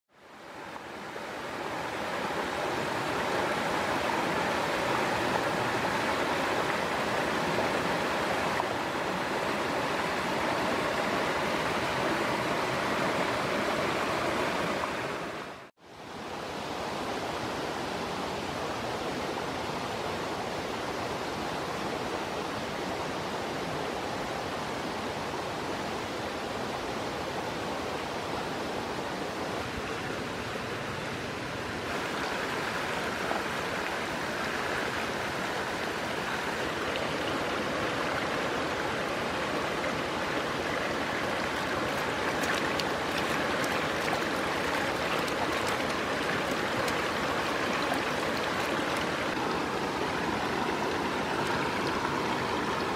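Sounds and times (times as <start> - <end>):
stream rushing over stones: 0.2 - 52.9.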